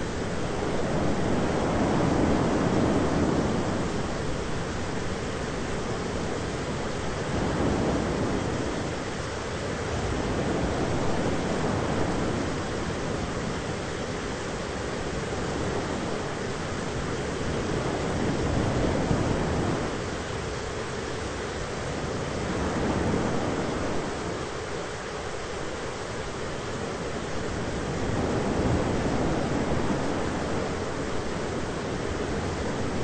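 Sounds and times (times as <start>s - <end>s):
steady rushing rain noise: 0.0s - 33.0s.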